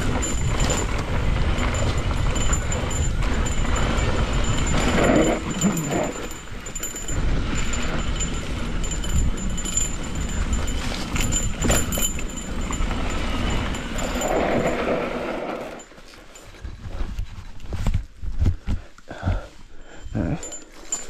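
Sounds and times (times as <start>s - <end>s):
wind rumbling on microphone: 0.0s - 19.5s
mountain bike rattling on dirt trail: 0.0s - 21.0s.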